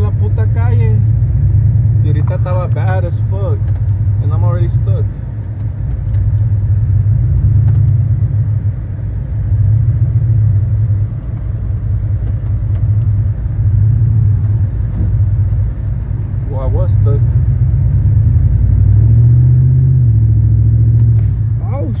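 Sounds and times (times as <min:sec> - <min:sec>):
car engine rumbling in snow: 0:00.0 - 0:22.0.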